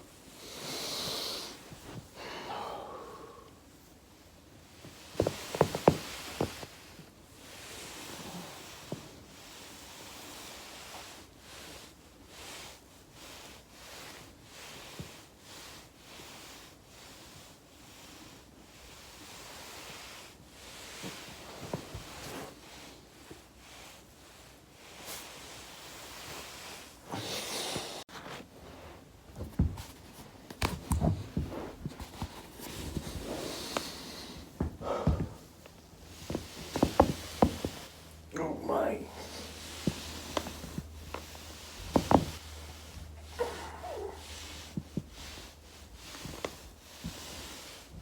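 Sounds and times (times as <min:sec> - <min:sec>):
swishing rustle on foam roller: 0:00.0 - 0:02.2, 0:03.6 - 0:48.0.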